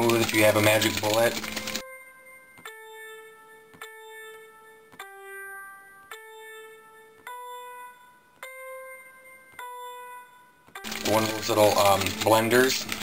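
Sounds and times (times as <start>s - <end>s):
slow piano-like keyboard melody: 0.0s - 13.0s.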